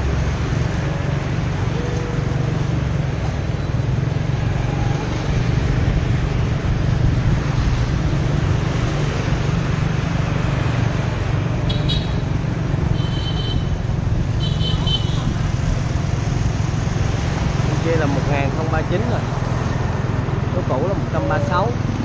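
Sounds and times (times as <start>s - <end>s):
rumble of wind and engines: 0.0s - 22.0s.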